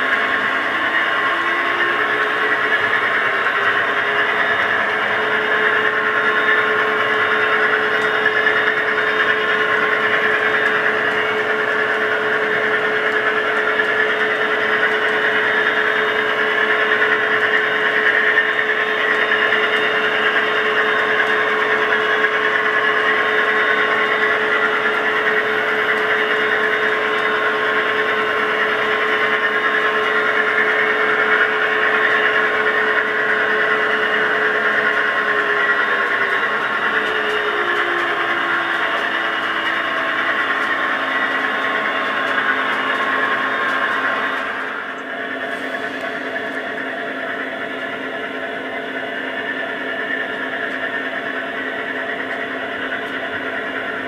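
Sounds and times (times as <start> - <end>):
diesel engine sound from small speaker: 0.0 - 54.0.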